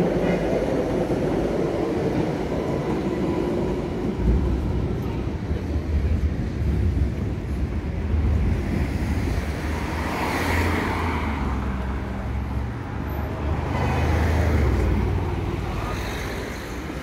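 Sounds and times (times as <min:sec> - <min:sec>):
traffic rumble: 0:00.0 - 0:17.0
vehicles passing: 0:00.0 - 0:17.0.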